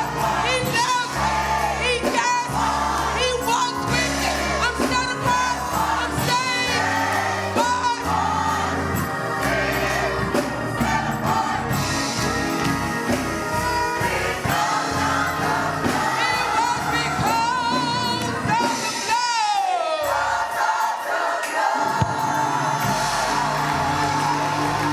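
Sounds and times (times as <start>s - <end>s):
choir singing gospel: 0.0s - 24.9s
instrumental accompaniment: 0.0s - 24.9s.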